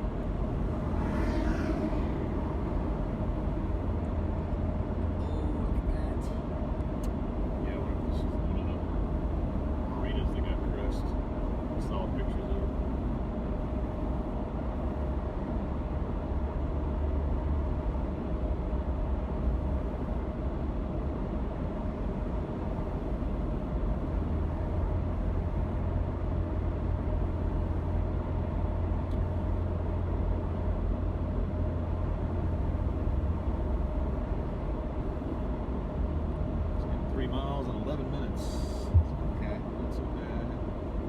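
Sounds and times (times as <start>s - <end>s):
road and engine rumble: 0.0s - 41.0s.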